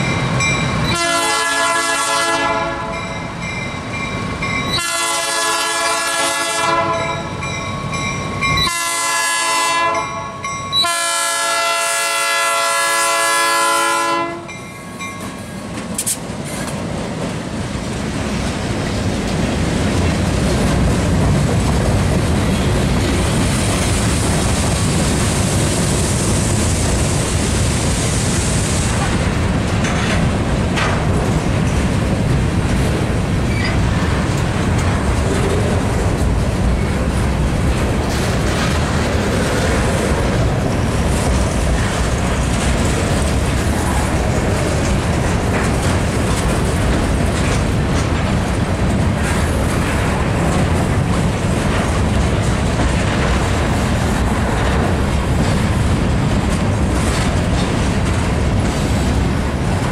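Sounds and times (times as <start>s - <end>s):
diesel locomotive engine: 0.0s - 59.9s
freight train wheels clattering: 0.0s - 59.9s.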